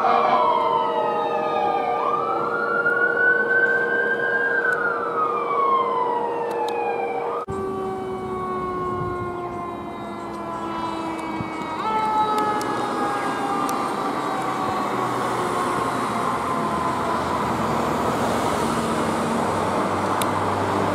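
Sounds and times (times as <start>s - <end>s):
siren wailing: 0.0s - 20.9s
steady siren tones: 0.0s - 20.9s.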